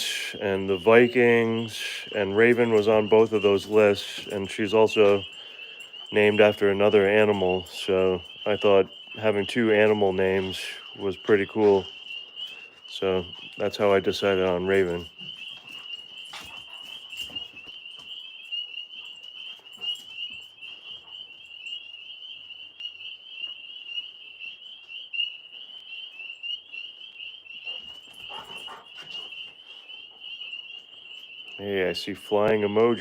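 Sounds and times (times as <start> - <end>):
frogs trilling: 0.0 - 33.0.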